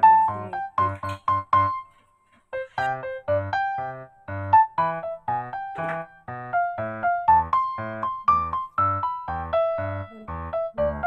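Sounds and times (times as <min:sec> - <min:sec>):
keyboard background music: 0:00.0 - 0:11.0.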